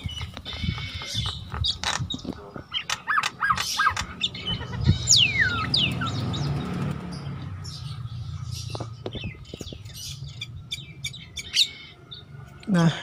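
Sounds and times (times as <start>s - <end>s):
bird chirps: 0.0s - 12.8s.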